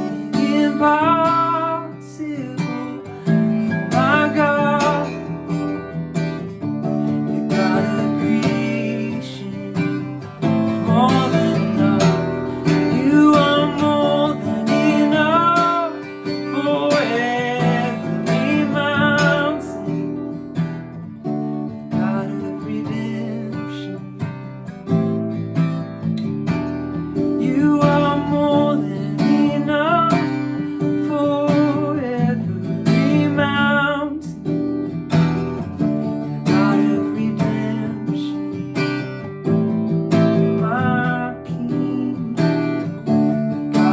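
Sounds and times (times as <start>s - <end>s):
person singing: 0.0s - 5.9s, 7.2s - 20.2s, 21.8s - 24.2s, 27.2s - 34.4s, 36.2s - 43.9s
acoustic guitar strumming: 0.0s - 43.9s.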